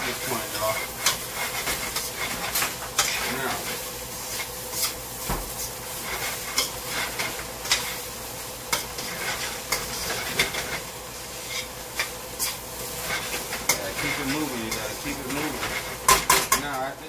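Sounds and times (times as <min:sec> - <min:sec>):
rice sizzling in a pan: 0:00.0 - 0:17.0.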